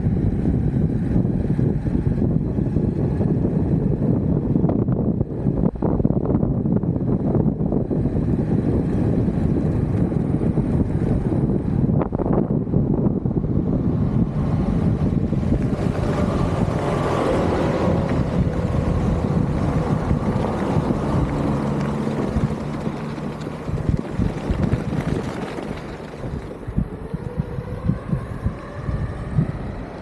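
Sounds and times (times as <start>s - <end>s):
skateboard road rumble: 0.0s - 30.0s
wind buffeting microphone: 0.0s - 30.0s.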